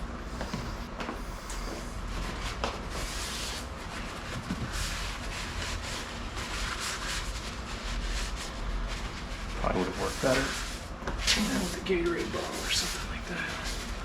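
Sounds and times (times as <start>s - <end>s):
paper towels rustling and wiping: 0.3s - 14.0s.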